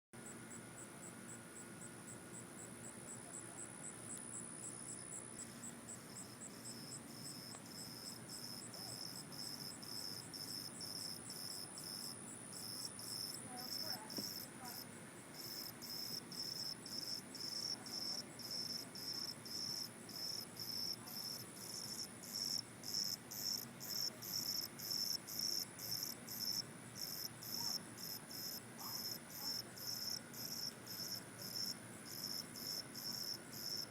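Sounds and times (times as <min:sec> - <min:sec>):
crickets chirping: 0:00.2 - 0:33.9
high-pitched insect trill: 0:00.2 - 0:33.9.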